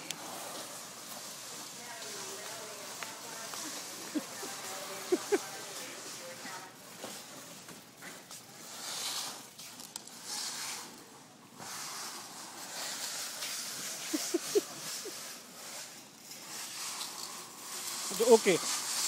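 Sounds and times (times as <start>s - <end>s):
cardboard box scraping on concrete: 0.0s - 19.0s.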